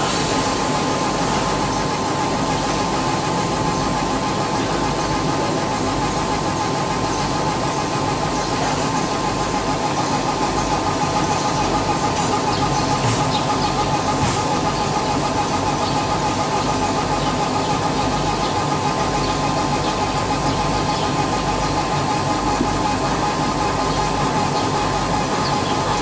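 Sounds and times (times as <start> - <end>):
laser engraving machine humming: 0.0 - 26.0.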